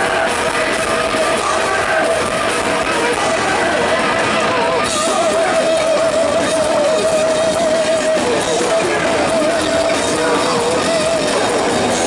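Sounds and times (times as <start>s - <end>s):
heavy metal band playing live: 0.0s - 12.0s.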